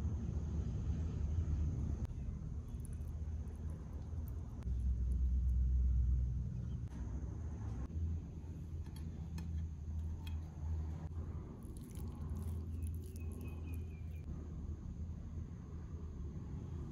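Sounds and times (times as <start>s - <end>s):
low background hum: 0.0s - 16.9s.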